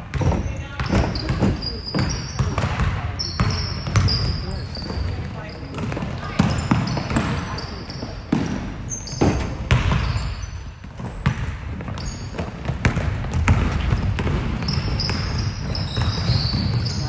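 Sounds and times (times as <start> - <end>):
basketball bouncing on hardwood floor: 0.0 - 17.0
shoe squeaks: 0.2 - 12.7, 13.9 - 17.0.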